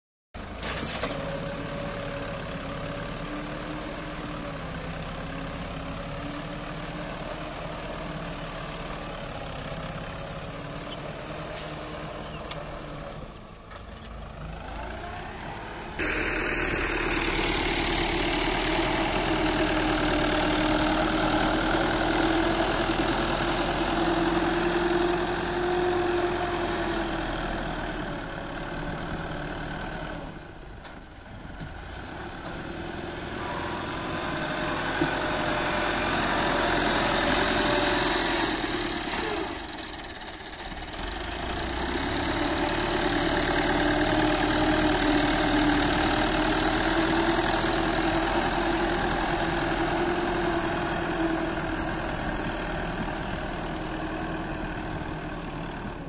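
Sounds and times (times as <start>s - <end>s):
tractor diesel engine working: 0.4s - 56.0s.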